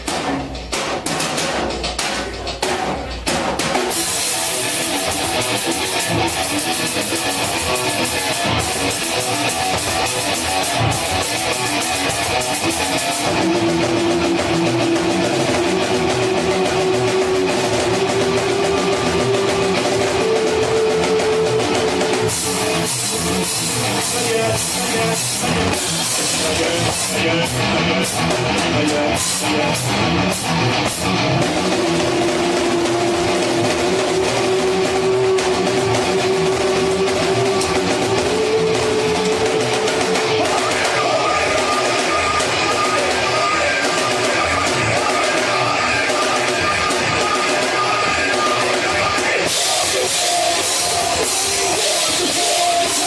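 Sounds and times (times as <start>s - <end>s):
drum kit: 0.0s - 53.0s
guitar: 0.0s - 53.0s.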